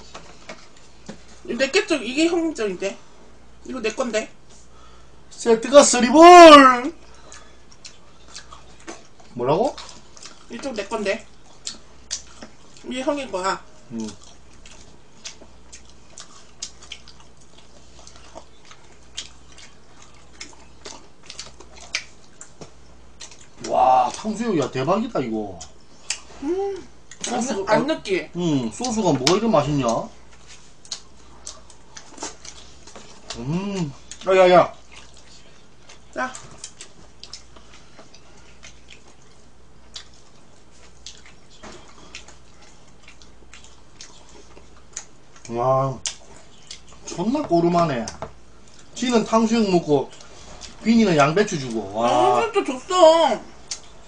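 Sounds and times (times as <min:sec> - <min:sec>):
faint low hum: 0:00.0 - 0:54.0
chewing and mouth noises: 0:07.0 - 0:24.8, 0:25.4 - 0:27.8, 0:28.5 - 0:52.4, 0:53.4 - 0:54.0.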